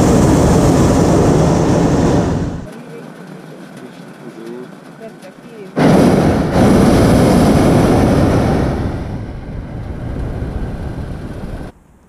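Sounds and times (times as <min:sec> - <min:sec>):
propane burner roaring: 0:00.0 - 0:11.8.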